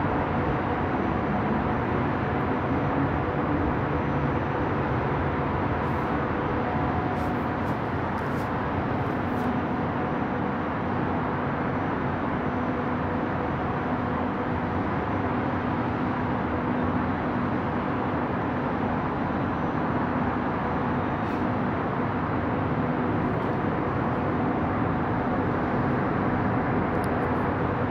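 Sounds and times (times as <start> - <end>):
distant city traffic: 0.0 - 27.9.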